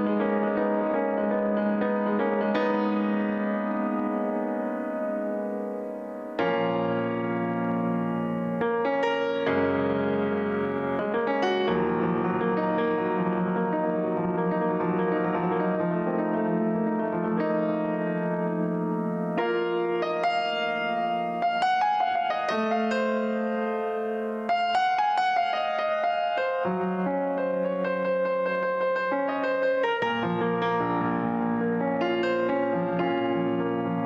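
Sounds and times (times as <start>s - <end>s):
piano chords and melody: 0.0s - 34.0s.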